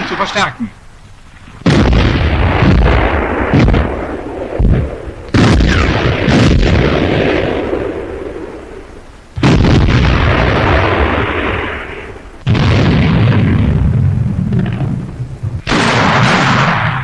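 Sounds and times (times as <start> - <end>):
heavy guns firing: 0.0 - 0.6, 1.4 - 17.0.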